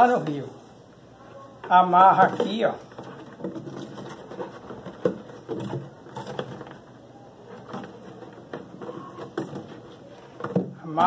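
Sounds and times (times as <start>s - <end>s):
cord rustling: 1.6s - 11.0s.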